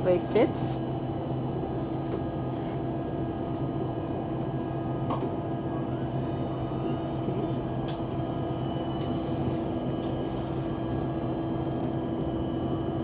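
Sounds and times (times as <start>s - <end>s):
train cabin hum and rumble: 0.0s - 13.0s.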